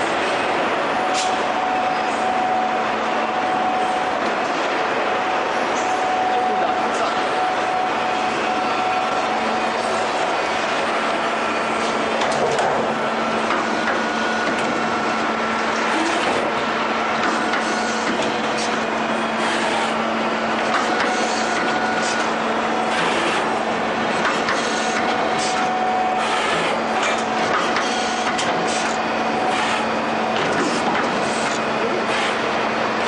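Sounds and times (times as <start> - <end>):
machine hum: 0.0 - 33.0.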